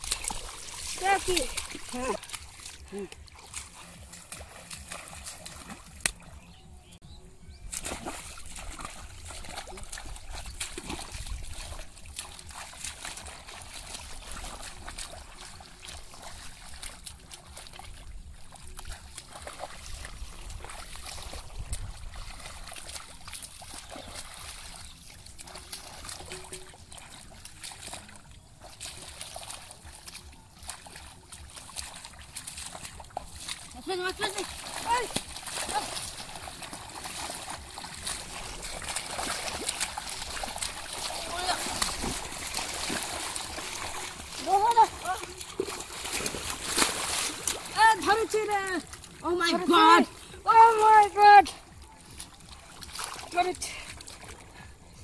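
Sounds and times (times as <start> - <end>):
muddy water splashing: 0.0 - 55.0.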